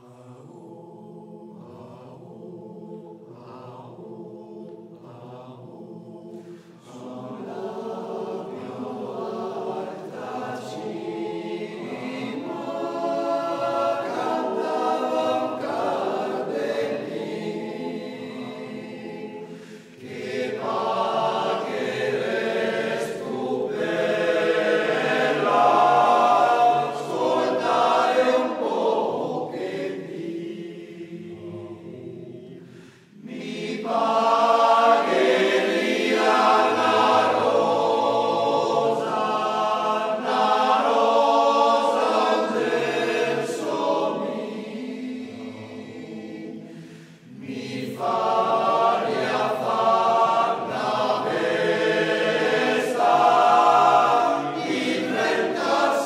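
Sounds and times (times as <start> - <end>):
male voice choir singing: 0.0 - 56.0.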